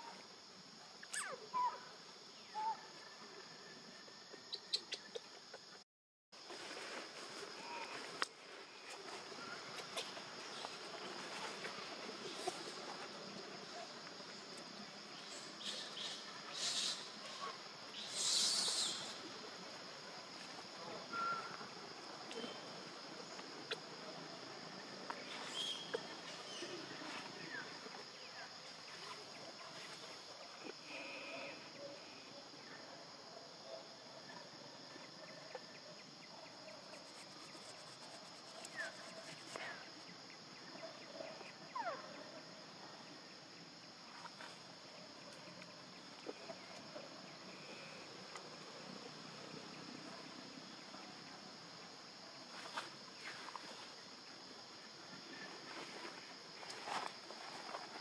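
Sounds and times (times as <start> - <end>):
insect chorus buzzing: 6.5 - 33.2, 35.0 - 58.0.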